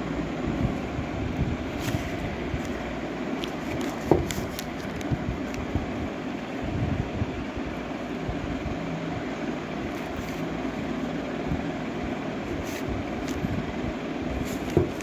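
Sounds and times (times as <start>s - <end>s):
faint hum: 0.0s - 15.0s
low rumble and hiss: 0.0s - 15.0s.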